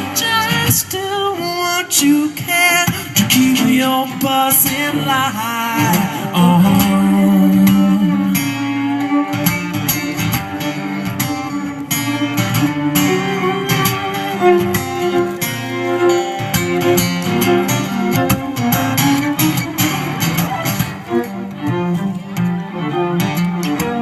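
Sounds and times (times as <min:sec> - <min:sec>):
guitar strumming and picking: 0:00.0 - 0:24.0
fiddle holding notes: 0:03.4 - 0:24.0.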